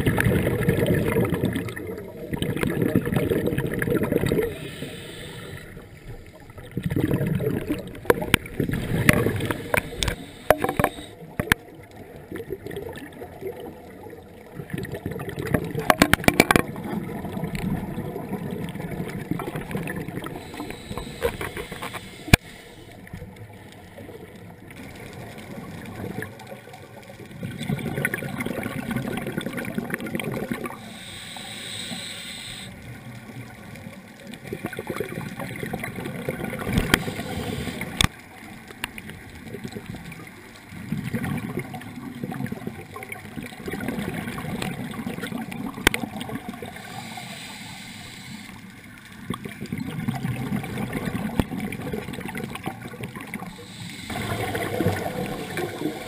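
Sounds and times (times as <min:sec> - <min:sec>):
regulator bubbles gurgling underwater: 0:00.0 - 0:56.0.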